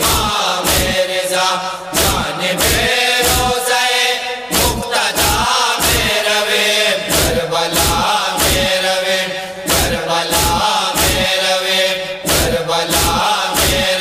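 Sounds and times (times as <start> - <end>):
rhythmic chest-beating slaps: 0.0 - 14.0
voices chanting in unison: 0.0 - 14.0.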